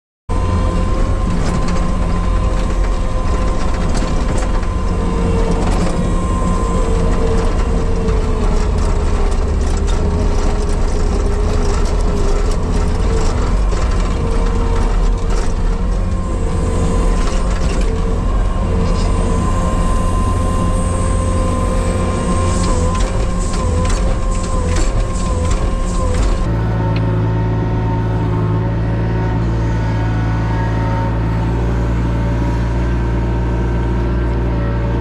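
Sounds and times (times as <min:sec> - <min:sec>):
diesel engine drone: 0:00.3 - 0:35.0
engine whine: 0:00.3 - 0:35.0.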